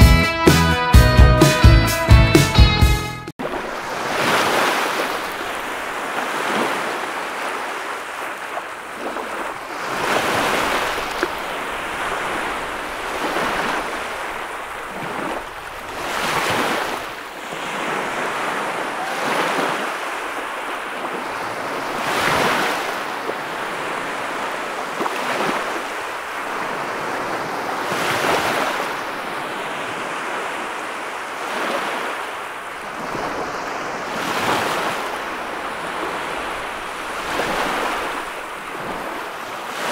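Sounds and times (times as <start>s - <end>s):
small waves washing onto beach: 3.4s - 39.9s.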